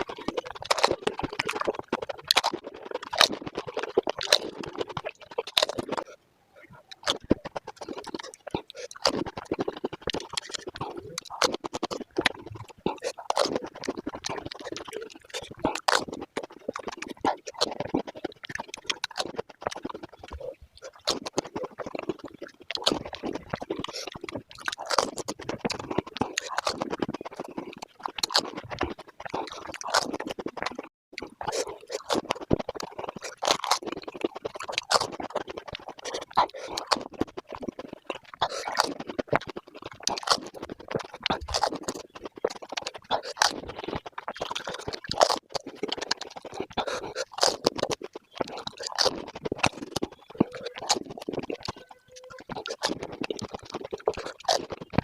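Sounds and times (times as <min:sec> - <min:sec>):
rapid crunching and chewing: 0:00.0 - 0:55.0.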